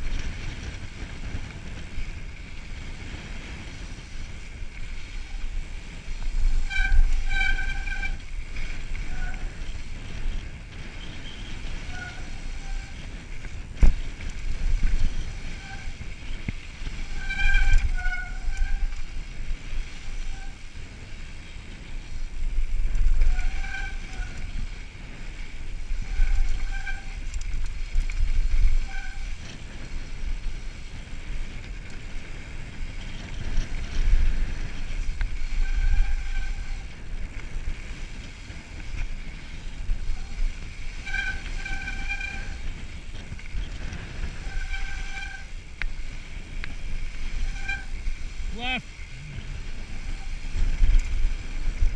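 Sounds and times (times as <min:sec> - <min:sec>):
tyres rumbling on dirt: 0:00.0 - 0:51.9
wind buffeting microphone: 0:00.0 - 0:51.9
bicycle brakes squealing: 0:05.0 - 0:51.9.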